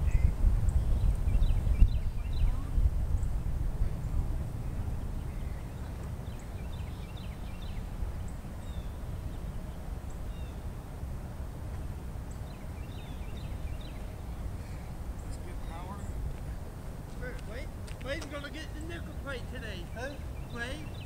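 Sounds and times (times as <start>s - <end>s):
small birds chirping: 0.0s - 10.8s, 11.8s - 21.0s
low outdoor rumble: 0.0s - 21.0s.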